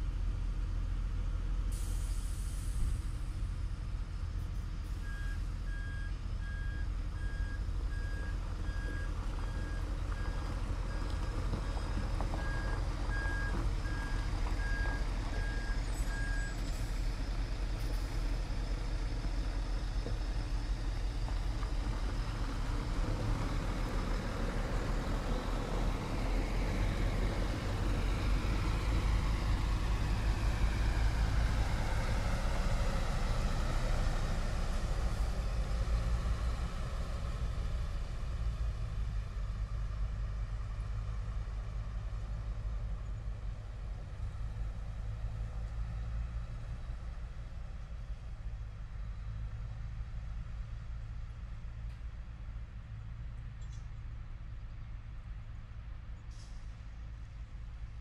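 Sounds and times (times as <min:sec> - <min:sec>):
heavy truck engine running: 0:00.0 - 0:58.0.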